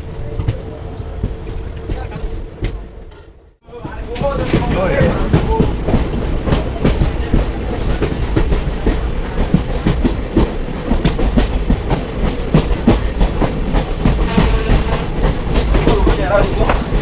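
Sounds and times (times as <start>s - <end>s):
passenger train rumble: 0.0s - 17.0s
train wheels clicking over track: 0.0s - 17.0s.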